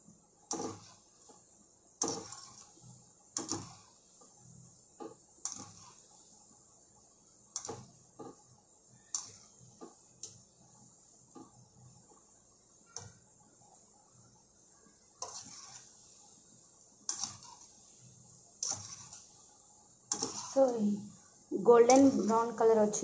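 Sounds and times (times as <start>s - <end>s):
oil sizzling: 0.5s - 23.0s.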